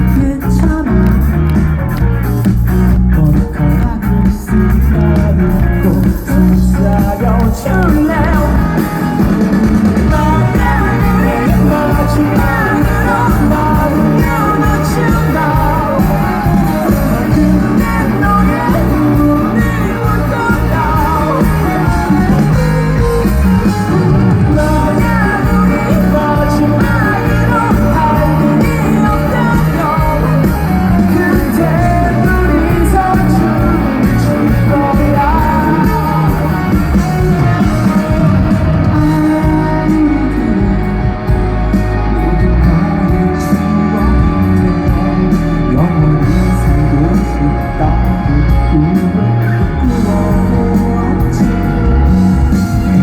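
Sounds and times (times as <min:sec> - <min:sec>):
live rock band playing: 0:00.0 - 0:53.0
person singing: 0:00.0 - 0:53.0.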